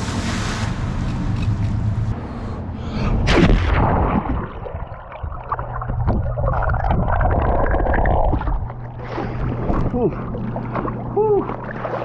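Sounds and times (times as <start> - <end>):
hot tub jets rumbling: 0.0 - 2.2, 3.2 - 12.0
water churning and bubbling: 0.0 - 12.0.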